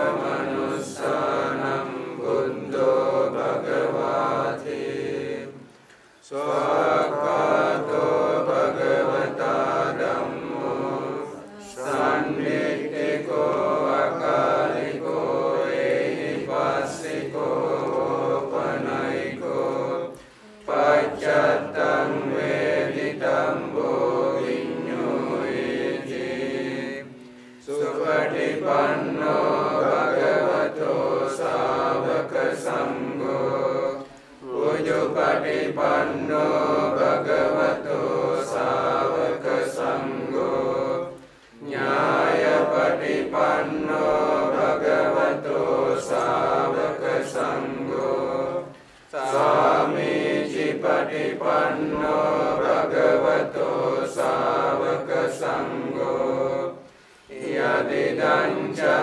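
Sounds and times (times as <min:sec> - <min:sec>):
monks chanting together: 0:00.0 - 0:59.0.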